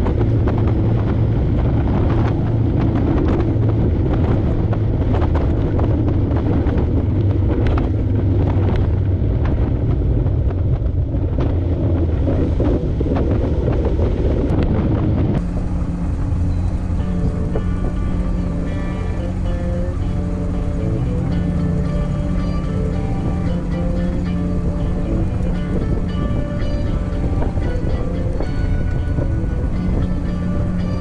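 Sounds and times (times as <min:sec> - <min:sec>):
boat engine running: 0:00.0 - 0:31.0
hull slapping through waves: 0:00.0 - 0:31.0
wind buffeting microphone: 0:00.0 - 0:31.0.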